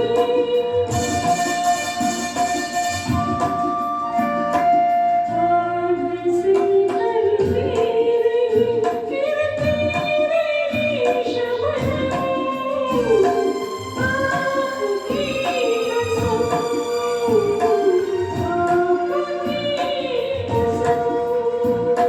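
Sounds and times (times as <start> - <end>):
light percussion beat: 0.0 - 5.4, 6.5 - 22.0
instrumental accompaniment: 0.0 - 22.0.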